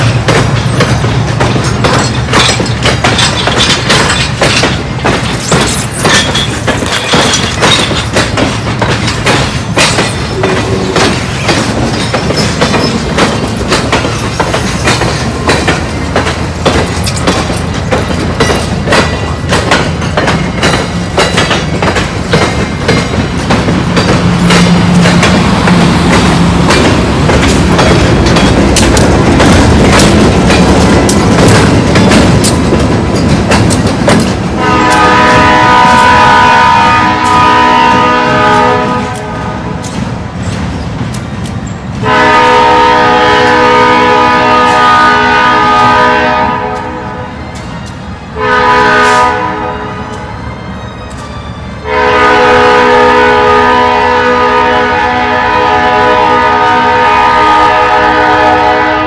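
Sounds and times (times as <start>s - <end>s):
train wheels clicking over rail joints: 0.0s - 49.4s.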